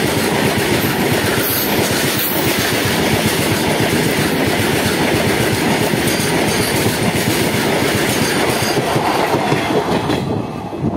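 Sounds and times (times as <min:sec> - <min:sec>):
freight train wheels on rails: 0:00.0 - 0:10.9.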